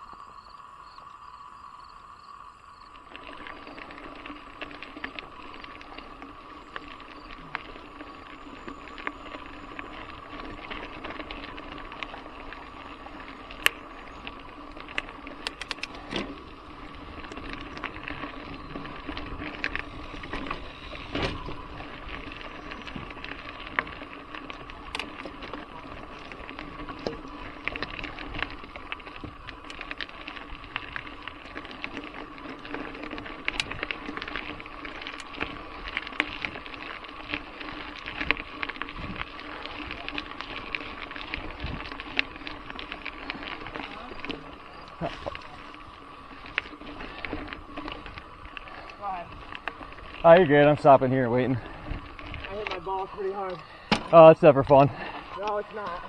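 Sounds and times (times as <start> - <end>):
bike rattling: 2.3 - 56.0
tyres on loose stones: 3.1 - 56.0.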